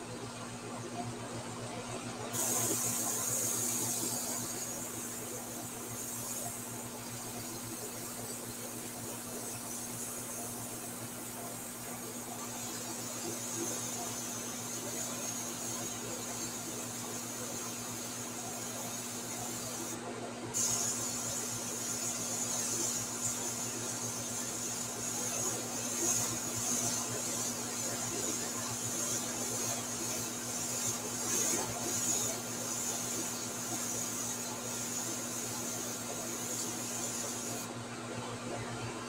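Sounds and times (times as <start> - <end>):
airbrush hissing: 2.3 - 37.7.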